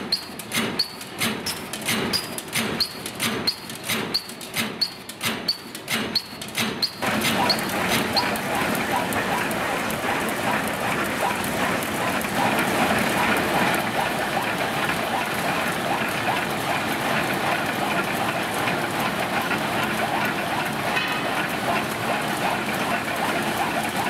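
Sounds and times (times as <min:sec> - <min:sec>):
thread rolling machine clattering: 0:00.0 - 0:24.0.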